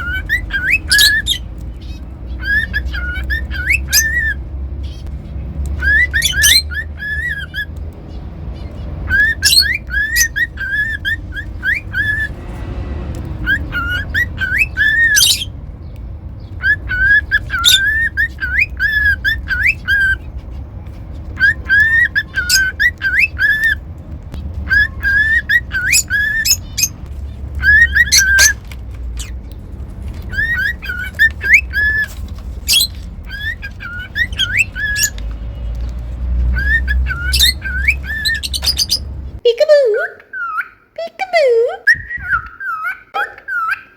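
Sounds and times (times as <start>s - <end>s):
cockatiel whistling and chirping: 0.0s - 12.4s, 13.4s - 15.6s, 16.4s - 35.3s, 36.4s - 39.2s, 40.2s - 40.8s, 41.8s - 43.9s.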